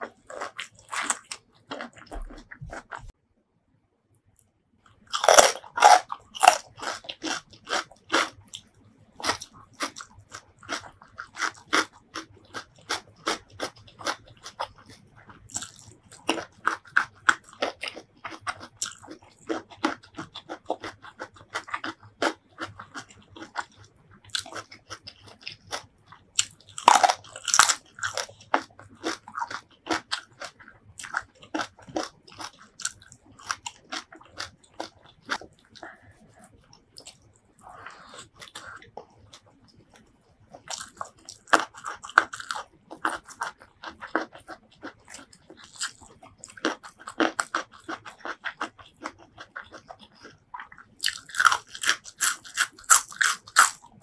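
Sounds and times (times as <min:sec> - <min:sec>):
crunching bites: 0:00.0 - 0:03.1, 0:05.0 - 0:35.8, 0:40.6 - 0:54.0
crunchy chewing: 0:00.0 - 0:03.1, 0:04.9 - 0:54.0.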